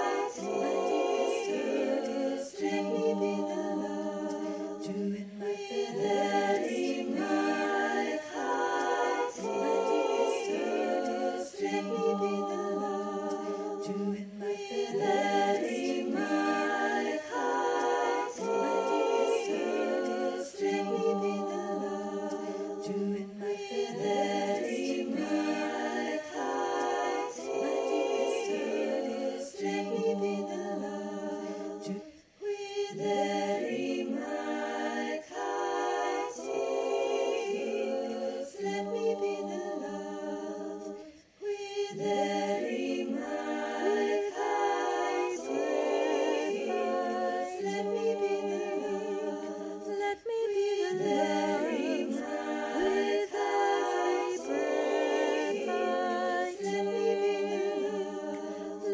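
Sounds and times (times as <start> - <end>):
a cappella harmony singing: 0.0 - 58.9.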